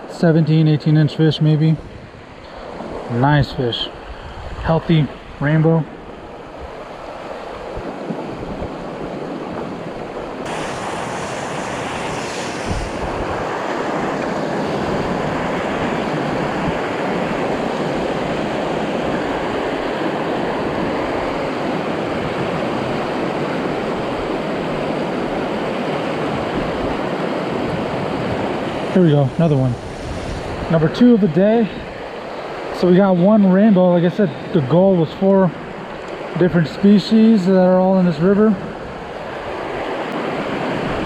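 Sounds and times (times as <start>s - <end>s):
mountain stream rushing water: 4.7s - 41.0s.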